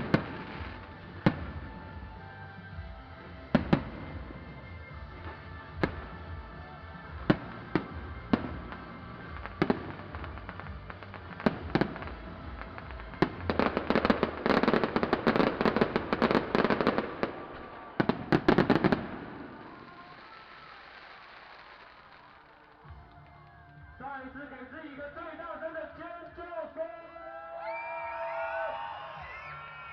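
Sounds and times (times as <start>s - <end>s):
fireworks bangs: 0.0s - 26.8s.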